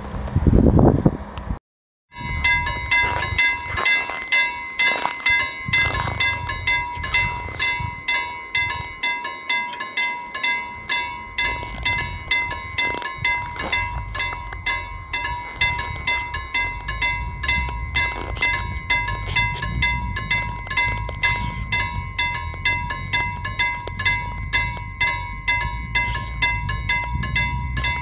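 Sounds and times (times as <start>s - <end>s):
level crossing warning bell: 2.1s - 28.0s.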